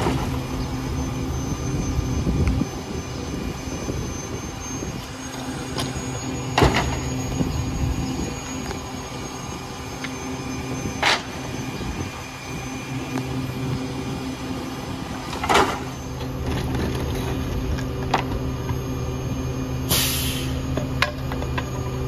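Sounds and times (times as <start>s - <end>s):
garbage truck idling: 0.0s - 22.0s.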